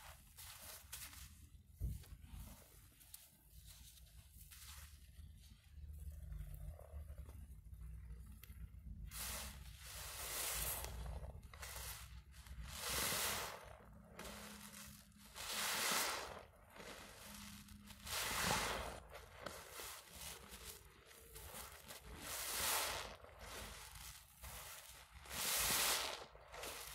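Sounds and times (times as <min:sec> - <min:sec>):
sponge squelching: 0:00.0 - 0:26.9.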